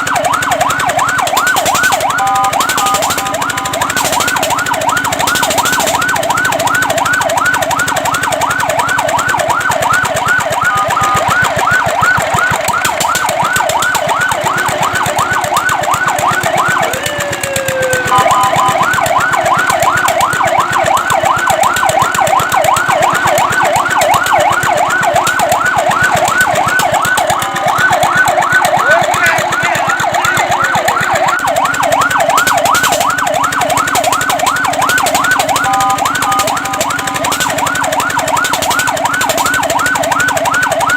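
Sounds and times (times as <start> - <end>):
fire truck siren yelping: 0.0 - 40.9.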